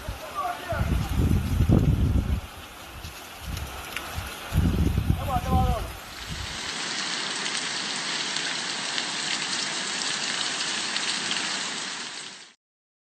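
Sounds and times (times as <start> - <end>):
heavy rain pouring: 0.0 - 12.6
raindrops pattering on surfaces: 0.0 - 12.6.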